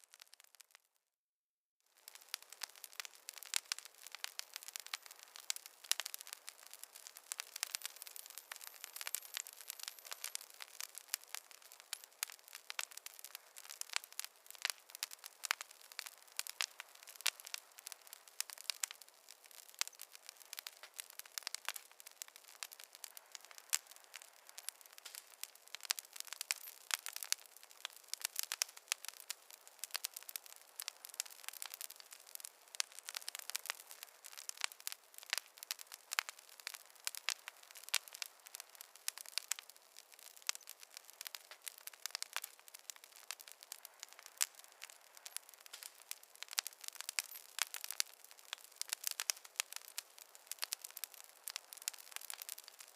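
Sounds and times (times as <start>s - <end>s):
wood fire crackling: 0.0s - 0.9s, 1.9s - 52.9s.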